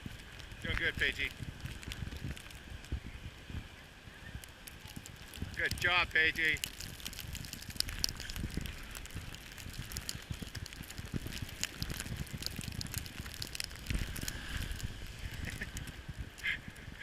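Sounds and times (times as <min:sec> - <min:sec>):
small crackles: 0:00.0 - 0:17.0
wind buffeting microphone: 0:00.0 - 0:17.0.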